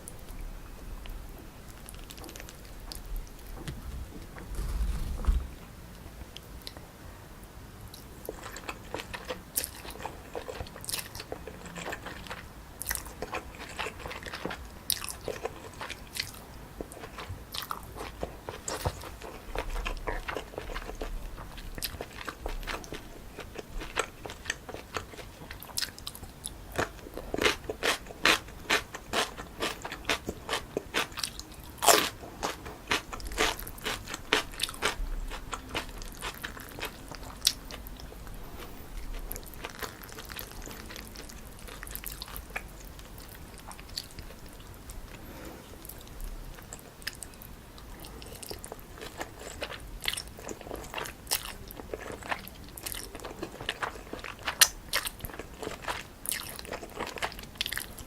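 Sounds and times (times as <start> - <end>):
chewing crunchy food: 7.9 - 58.0.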